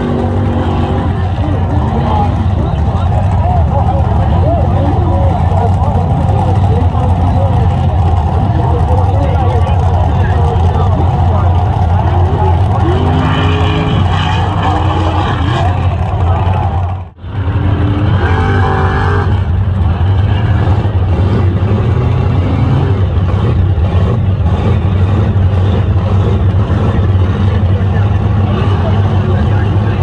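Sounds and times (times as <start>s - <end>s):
faint voices: 0.0s - 17.3s, 18.2s - 30.0s
truck engine rumbling: 0.0s - 30.0s.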